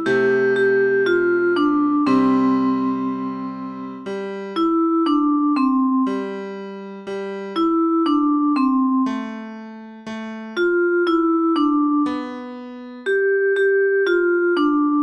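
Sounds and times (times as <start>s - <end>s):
electric piano ringtone melody: 0.0s - 15.0s.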